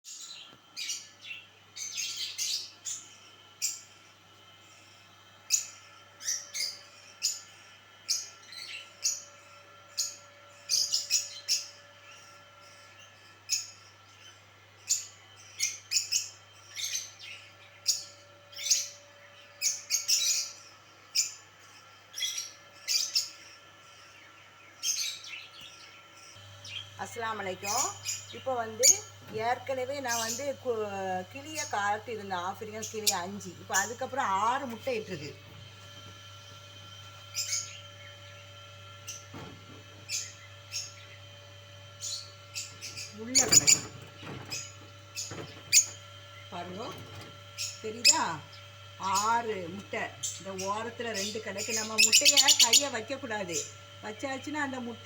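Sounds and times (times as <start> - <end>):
parrots chirping: 4.7 - 54.9.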